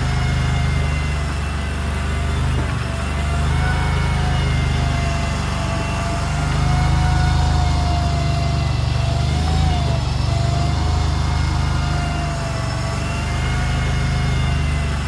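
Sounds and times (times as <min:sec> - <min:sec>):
small engine running under load: 0:00.0 - 0:15.0
steady whine: 0:00.0 - 0:15.0.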